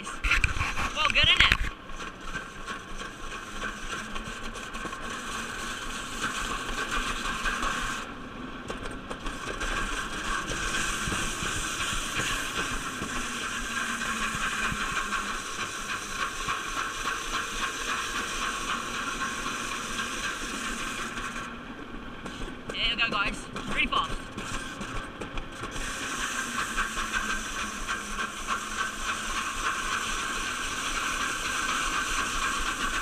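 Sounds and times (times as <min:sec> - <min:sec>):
sled hissing on metal chute: 0:00.0 - 0:33.0.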